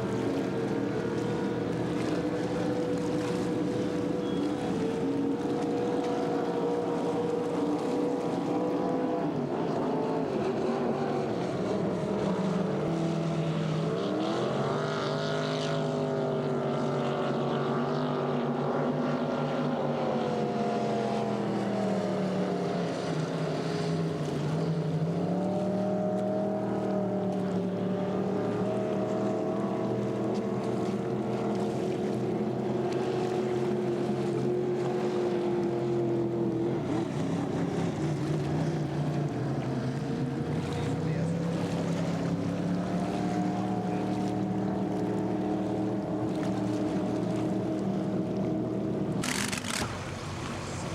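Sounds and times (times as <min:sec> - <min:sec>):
speedboat engines racing: 0:00.0 - 0:50.9.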